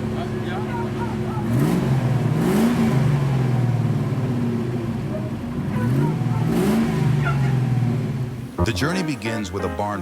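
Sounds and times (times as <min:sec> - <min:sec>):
car engine idling and revving: 0:00.0 - 0:08.6.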